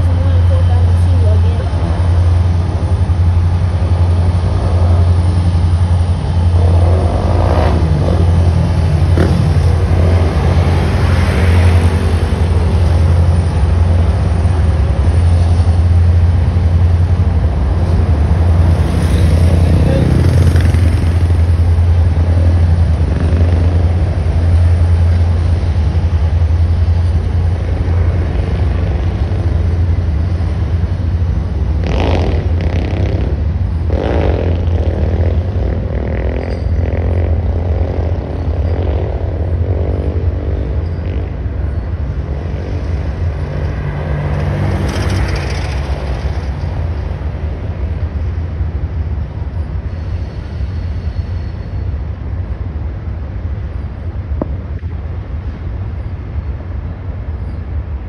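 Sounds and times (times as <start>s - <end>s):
freight train on viaduct: 0.0s - 58.0s
road traffic passing: 0.0s - 58.0s.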